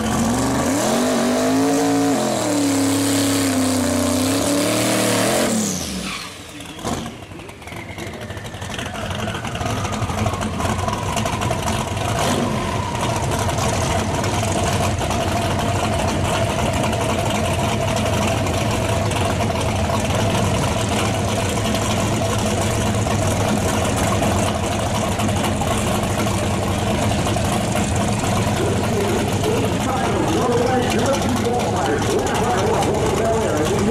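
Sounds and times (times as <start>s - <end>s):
car engine revving and idling: 0.0s - 33.9s.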